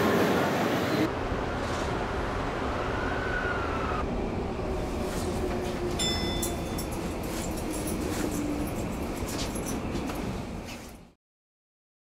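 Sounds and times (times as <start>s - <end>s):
train rumble: 0.0s - 11.2s.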